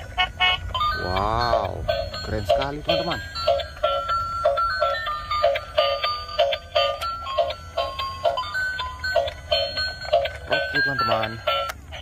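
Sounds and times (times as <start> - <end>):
tinny electronic toy melody: 0.0 - 12.0.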